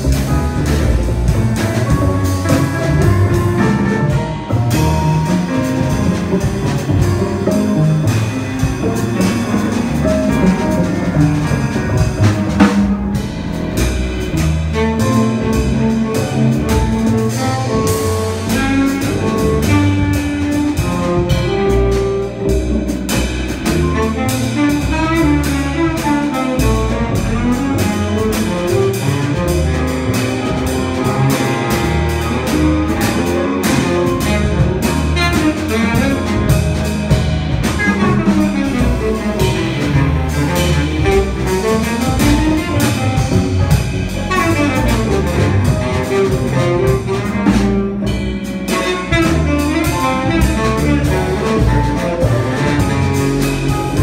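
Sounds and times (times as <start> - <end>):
baritone saxophone: 0.0 - 54.0
double bass: 0.0 - 54.0
drum kit with cymbals: 0.0 - 54.0
piano: 0.0 - 54.0.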